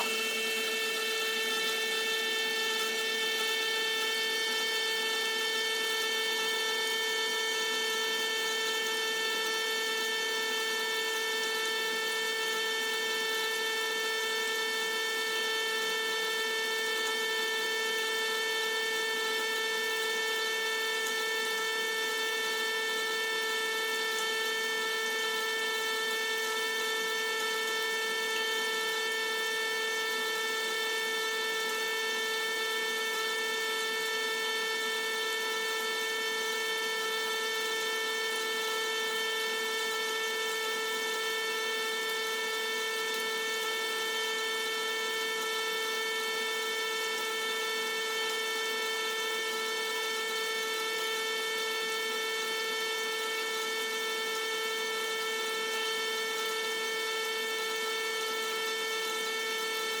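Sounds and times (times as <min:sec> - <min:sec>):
electric pump humming: 0:00.0 - 0:51.0.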